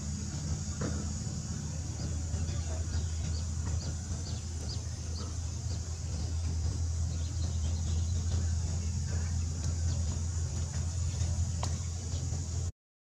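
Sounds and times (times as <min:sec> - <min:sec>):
steady high hiss: 0:00.0 - 0:12.7
steady low hum: 0:00.0 - 0:12.7.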